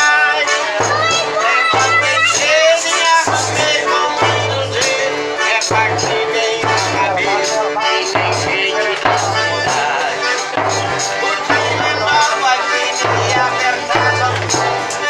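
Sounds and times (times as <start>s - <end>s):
music with low bass and melody: 0.0s - 15.0s
shaken percussion: 0.0s - 15.0s.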